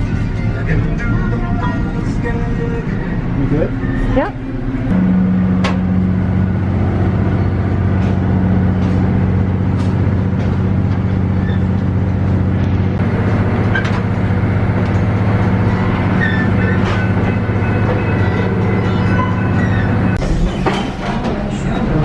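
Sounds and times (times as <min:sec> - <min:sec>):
train running with low drone: 0:00.0 - 0:22.0.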